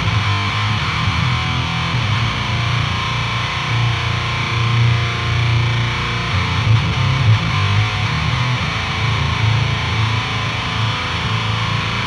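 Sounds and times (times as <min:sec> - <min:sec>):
distorted electric guitar riff: 0:00.0 - 0:12.0.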